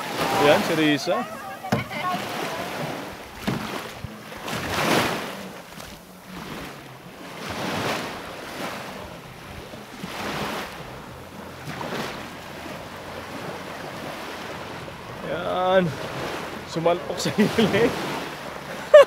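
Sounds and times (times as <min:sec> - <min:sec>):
small waves washing in shallows: 0:00.0 - 0:19.0.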